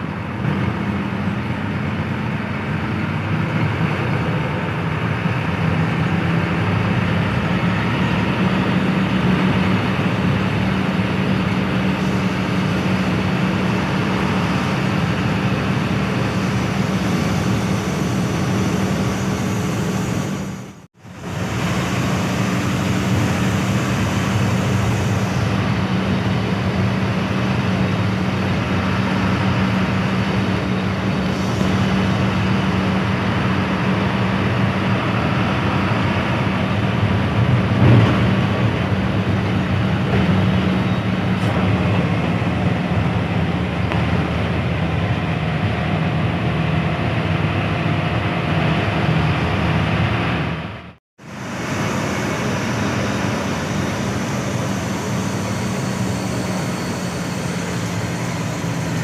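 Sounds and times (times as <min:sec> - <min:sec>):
bus diesel engine humming: 0:00.0 - 0:59.0
road noise: 0:00.0 - 0:59.0.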